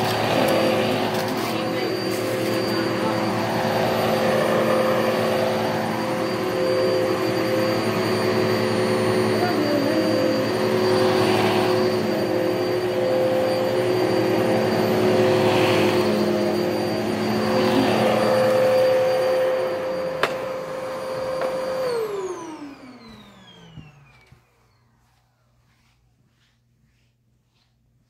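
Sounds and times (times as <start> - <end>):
vacuum motor winding down: 0.0 - 25.4
vacuum cleaner motor whine: 0.0 - 26.1.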